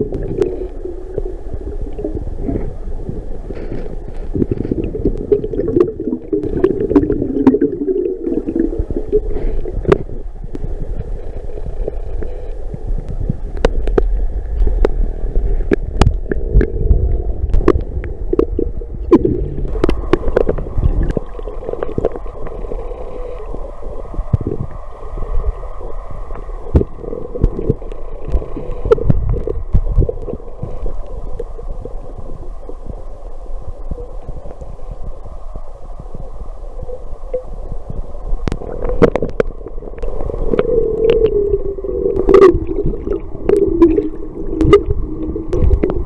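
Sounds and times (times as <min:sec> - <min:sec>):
muffled underwater rumble: 0:00.0 - 0:46.0.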